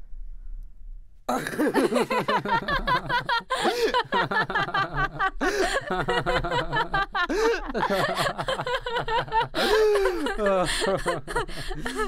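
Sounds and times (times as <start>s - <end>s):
man and woman laughing: 1.3s - 12.0s.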